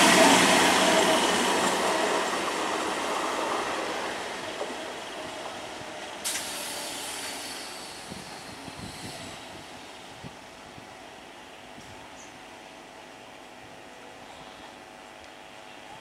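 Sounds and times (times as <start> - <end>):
electric train rumble and rail hiss: 0.0 - 16.0.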